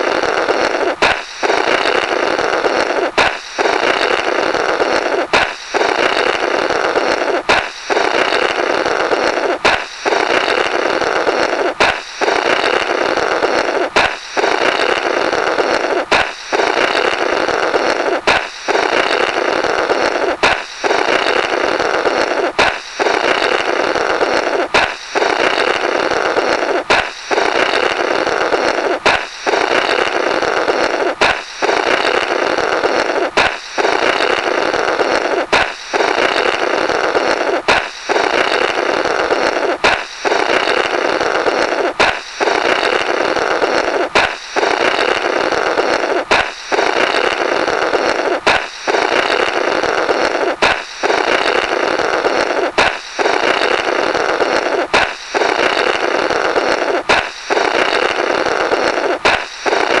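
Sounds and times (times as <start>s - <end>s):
balloon popping: 0.0s - 60.0s
blowing through burst balloon: 0.0s - 60.0s.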